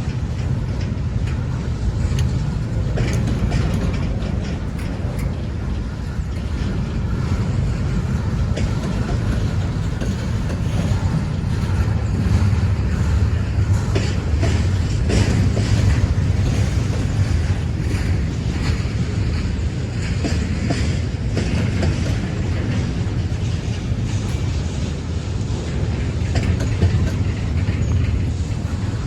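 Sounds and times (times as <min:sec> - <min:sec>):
freight train rumble: 0:00.0 - 0:29.0
wheels clicking over rail joints: 0:00.0 - 0:29.0.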